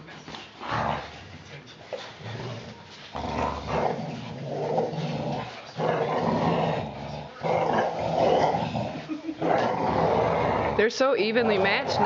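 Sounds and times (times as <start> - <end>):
dogs growling: 0.0 - 12.0.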